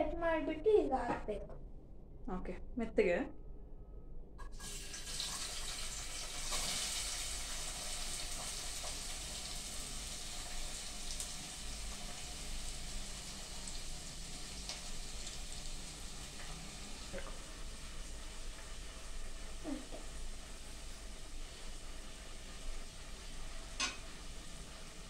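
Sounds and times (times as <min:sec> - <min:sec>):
onions sizzling in hot oil: 0:04.4 - 0:25.0.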